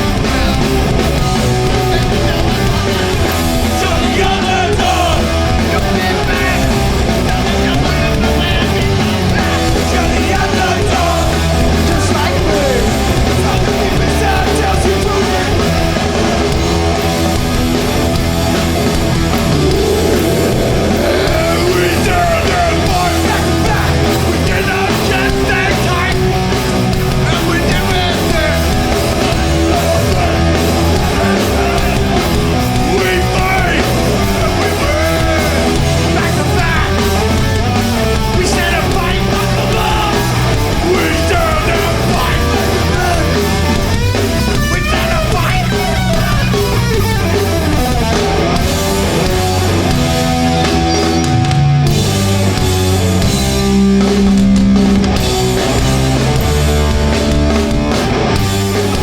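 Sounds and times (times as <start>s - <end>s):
punk band playing live: 0.0s - 59.0s.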